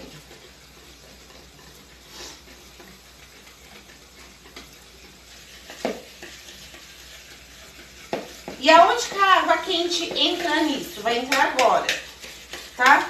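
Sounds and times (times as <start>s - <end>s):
spoon stirring batter in bowl: 0.0s - 13.0s.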